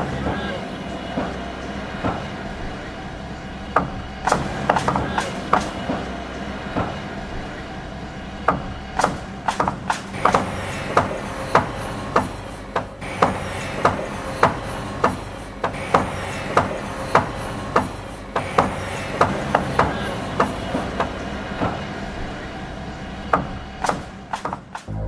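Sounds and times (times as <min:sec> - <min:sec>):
steady low hum: 0:00.0 - 0:24.3.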